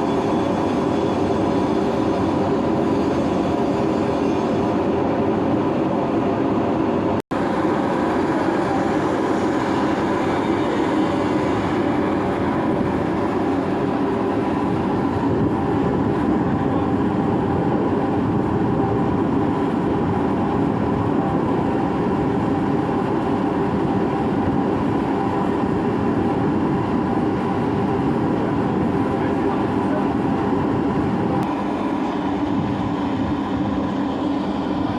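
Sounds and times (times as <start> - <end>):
boat engine droning: 0.0 - 34.9
water and hull noise: 6.0 - 34.9.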